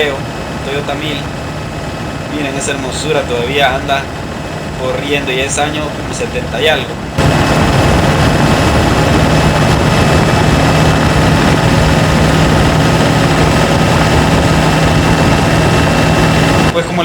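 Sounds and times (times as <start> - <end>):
diesel engine droning under load: 0.0 - 17.0
turbo whine: 0.0 - 17.0.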